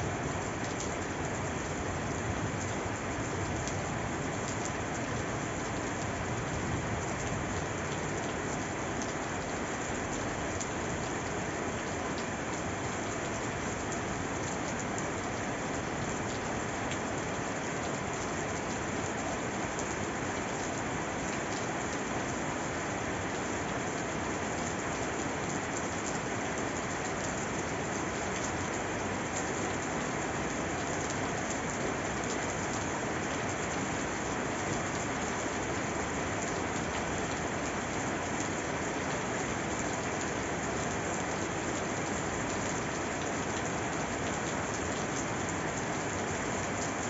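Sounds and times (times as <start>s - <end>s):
steady rain pattering: 0.0s - 47.0s.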